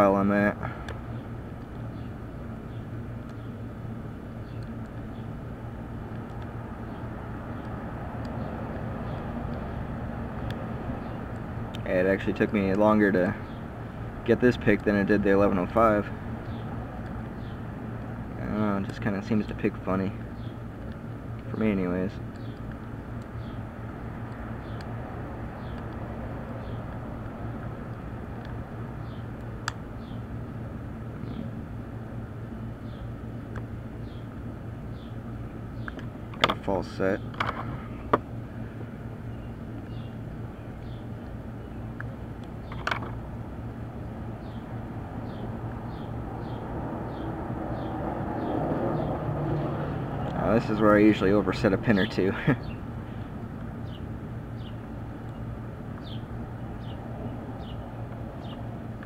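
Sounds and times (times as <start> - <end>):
machinery hum and rumble: 0.0 - 59.0.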